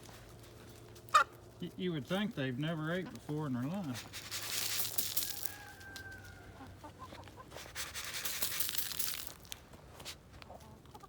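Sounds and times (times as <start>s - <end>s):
chickens scratching and pecking litter: 0.0s - 11.0s.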